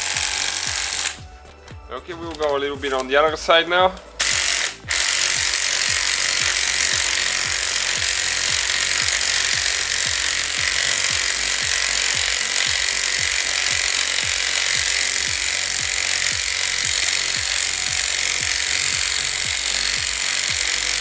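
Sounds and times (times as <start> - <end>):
impact wrench running: 0.0 - 21.0.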